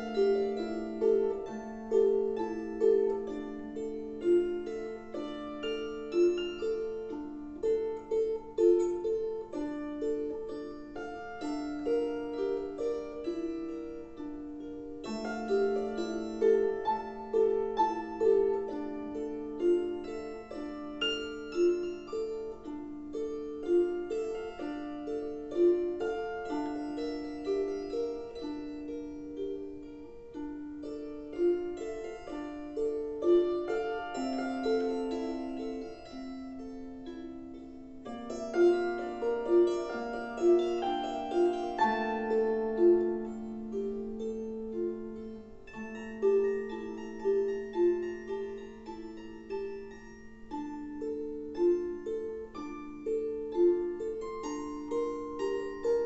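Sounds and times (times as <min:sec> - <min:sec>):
instrumental lullaby: 0:00.0 - 0:56.0.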